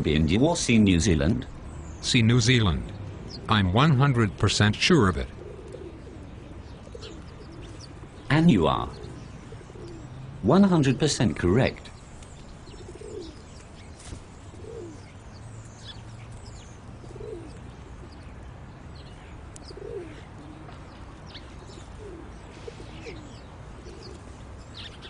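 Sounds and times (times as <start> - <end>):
low cooing calls: 2.6 - 3.9, 5.0 - 25.0.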